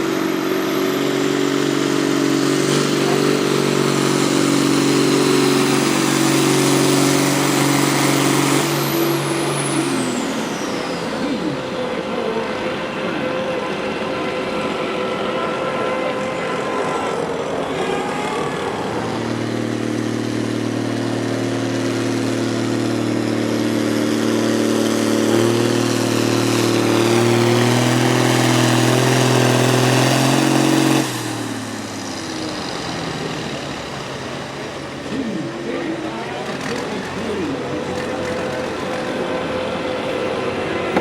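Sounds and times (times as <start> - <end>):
vehicle engine under heavy throttle: 0.0 - 41.0.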